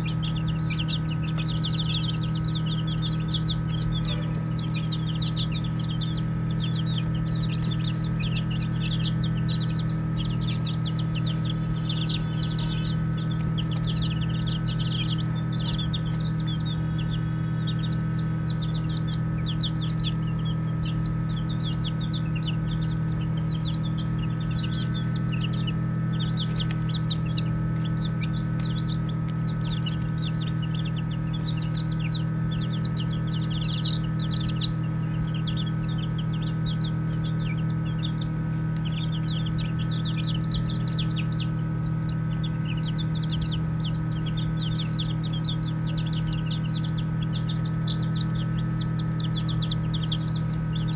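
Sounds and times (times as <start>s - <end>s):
baby chicks peeping: 0.0s - 50.9s
steady low hum: 0.0s - 50.9s.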